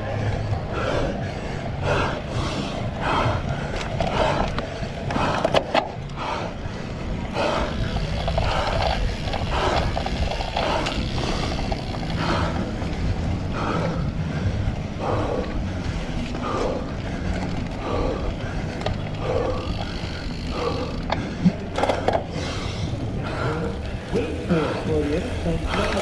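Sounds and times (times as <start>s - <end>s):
bike rolling over bumpy ground: 0.0s - 26.0s
heavy breathing: 0.0s - 26.0s.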